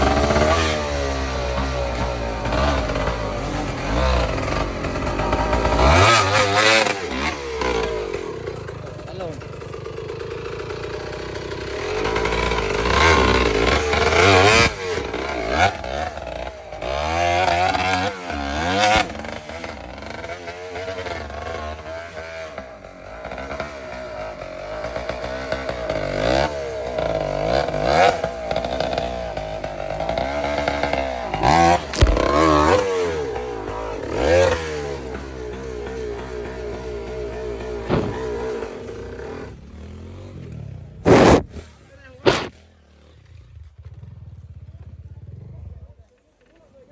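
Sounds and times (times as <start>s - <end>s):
dirt bike engine revving: 0.0s - 45.8s.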